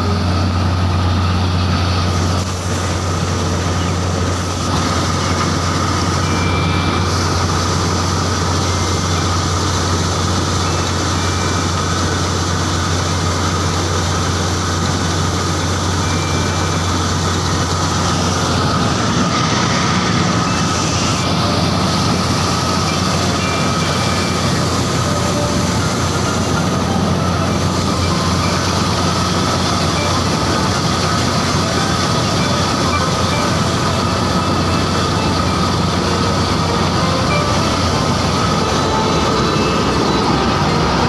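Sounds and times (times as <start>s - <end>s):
combine harvester running: 0.0s - 41.0s
faint steady whine: 0.0s - 41.0s.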